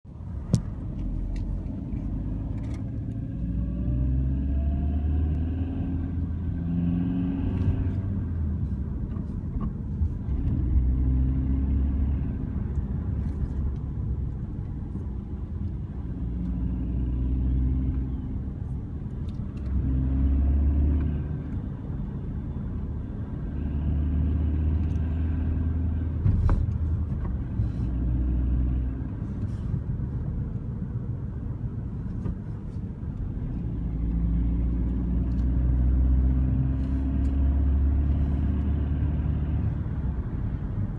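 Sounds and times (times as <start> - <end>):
car engine rumble and growl: 0.0 - 40.9.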